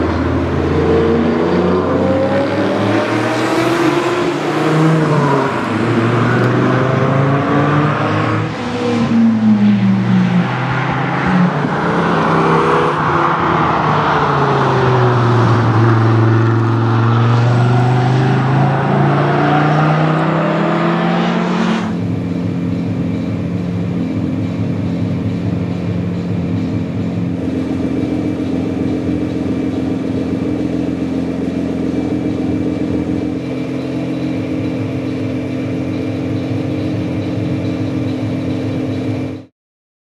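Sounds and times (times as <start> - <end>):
car engine idling: 0.0 - 7.3, 8.2 - 21.0, 21.8 - 39.5.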